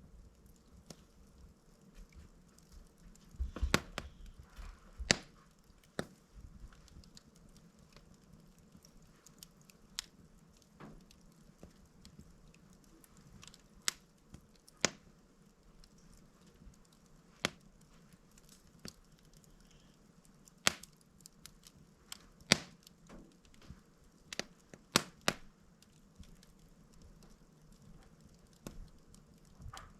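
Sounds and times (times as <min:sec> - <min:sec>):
faint steady hiss: 0:00.0 - 0:29.9
log crackling in fireplace: 0:00.0 - 0:29.9.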